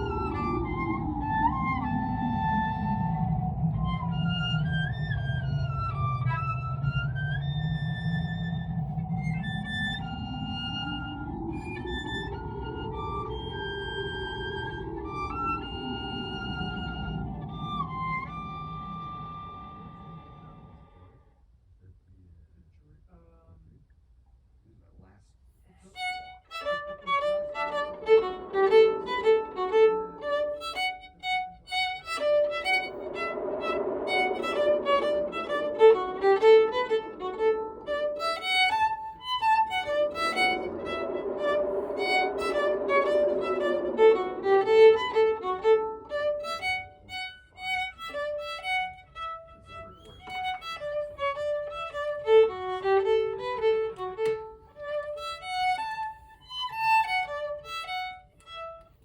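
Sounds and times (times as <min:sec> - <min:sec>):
solo violin playing: 0:00.0 - 0:20.8, 0:26.0 - 0:59.0.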